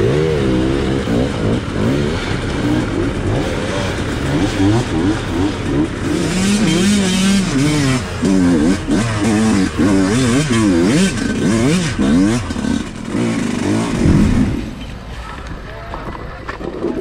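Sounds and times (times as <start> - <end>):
two-stroke motorcycle engine revving: 0.0 - 14.8.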